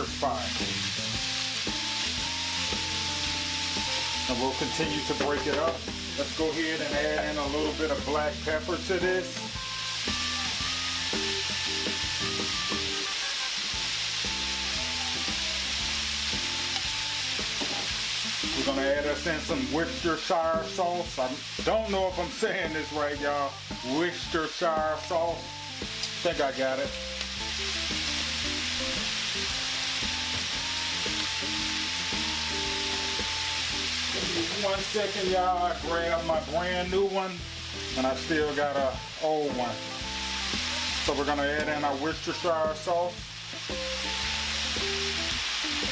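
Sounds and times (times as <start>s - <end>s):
background music: 0.0s - 45.9s
meat sizzling in a frying pan: 0.0s - 45.9s
utensil stirring meat: 0.2s - 12.5s, 13.9s - 45.9s.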